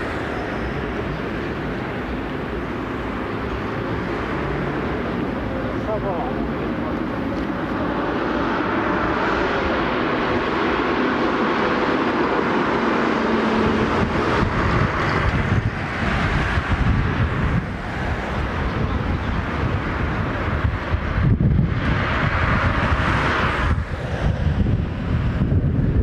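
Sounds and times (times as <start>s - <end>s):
bus engine passing by: 0.0s - 26.0s
street traffic: 0.0s - 26.0s.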